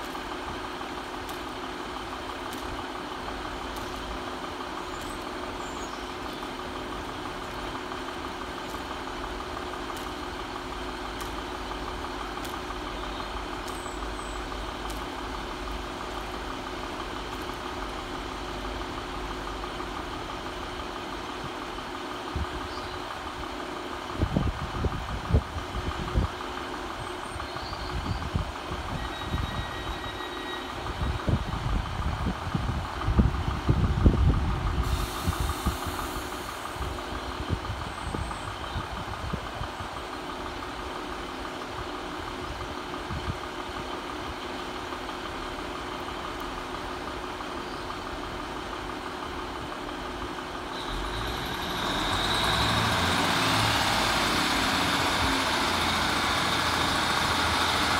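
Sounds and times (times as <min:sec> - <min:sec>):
train diesel engines idling: 0:00.0 - 0:57.9.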